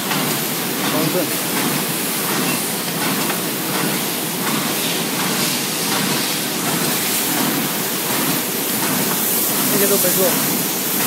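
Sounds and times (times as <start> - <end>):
packing machines running with hiss: 0.0 - 11.0.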